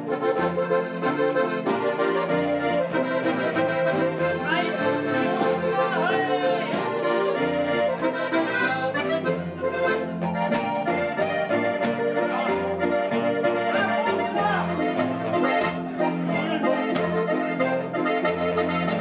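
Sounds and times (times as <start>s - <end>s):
accordion playing folk dance tune: 0.0s - 19.0s.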